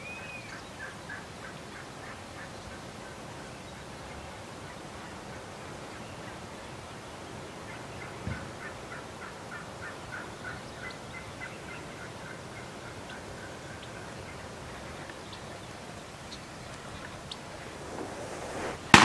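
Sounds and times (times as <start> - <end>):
wild turkey calling: 0.0 - 4.2, 7.1 - 19.0.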